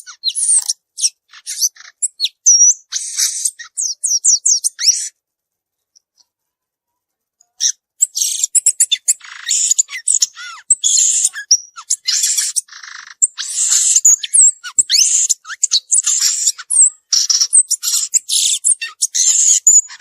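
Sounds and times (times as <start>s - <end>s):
bird song of high chirps: 0.0s - 5.2s, 7.4s - 20.0s.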